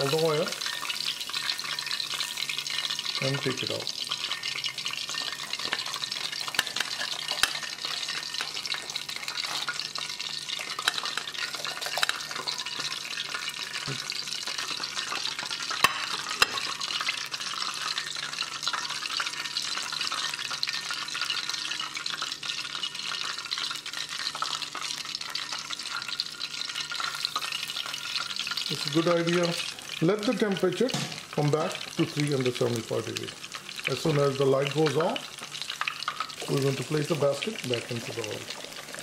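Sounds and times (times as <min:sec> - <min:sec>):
oil sizzling in deep fryer: 0:00.0 - 0:39.0.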